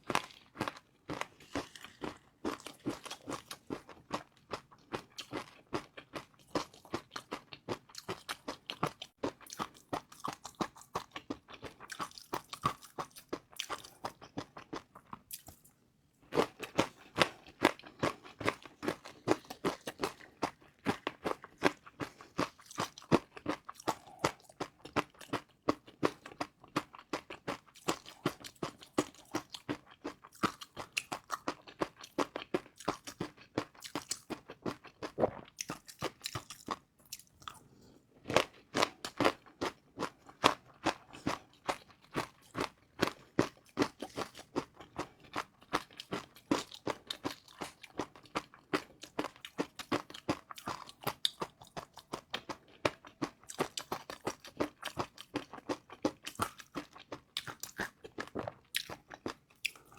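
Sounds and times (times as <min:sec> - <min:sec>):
chewing crispy fried noodles: 0:00.0 - 0:59.9.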